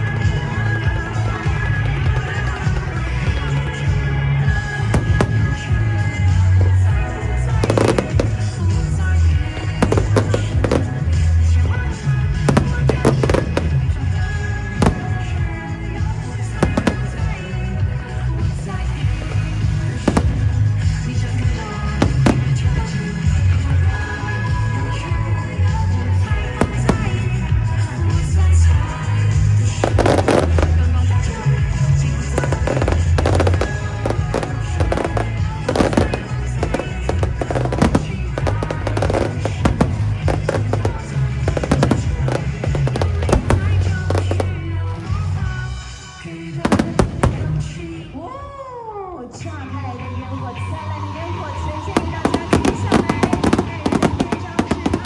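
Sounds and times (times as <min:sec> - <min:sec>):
music with heavy bass: 0:00.0 - 0:46.0, 0:46.6 - 0:48.0, 0:52.0 - 0:55.0
fireworks bangs: 0:00.0 - 0:48.4, 0:51.9 - 0:55.0.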